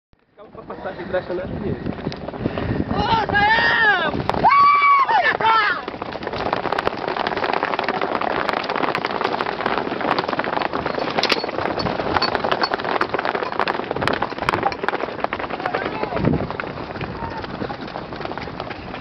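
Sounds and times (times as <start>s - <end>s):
horses galloping on dirt: 0.2s - 19.0s.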